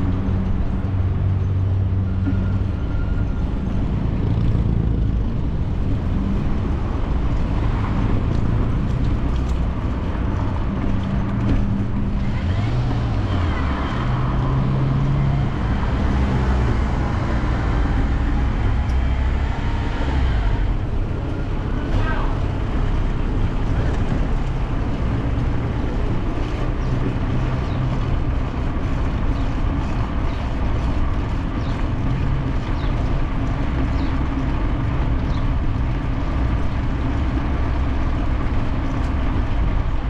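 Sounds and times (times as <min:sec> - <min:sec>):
road traffic passing: 0:00.0 - 0:40.0
steady low rumble: 0:00.0 - 0:40.0
vehicle engine passing by: 0:03.0 - 0:39.5.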